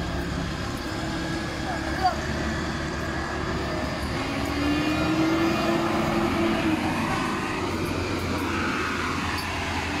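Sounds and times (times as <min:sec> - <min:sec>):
street noise: 0:00.0 - 0:10.0
vehicle engines rumbling: 0:00.0 - 0:10.0.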